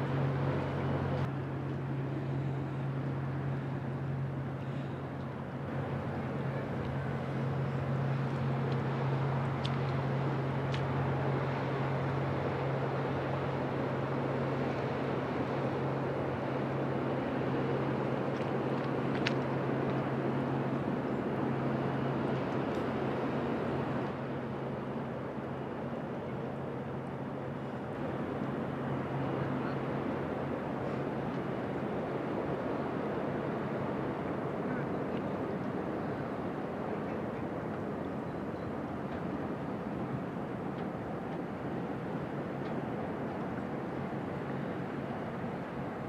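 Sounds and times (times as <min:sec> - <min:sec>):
boat diesel engine droning: 0:00.0 - 0:46.0.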